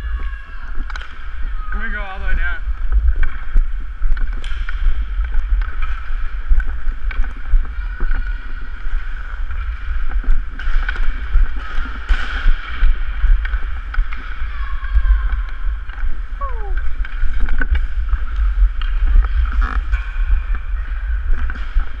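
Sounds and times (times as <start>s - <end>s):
wind and motion rumble: 0.0s - 22.0s
skates scraping ice: 0.2s - 22.0s.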